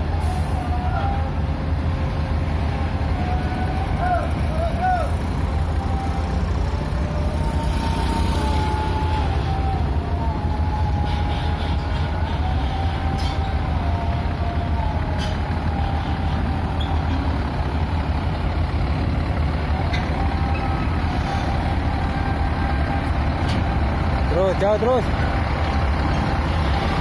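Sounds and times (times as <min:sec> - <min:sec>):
heavy vehicle engine rumbling: 0:00.0 - 0:27.0.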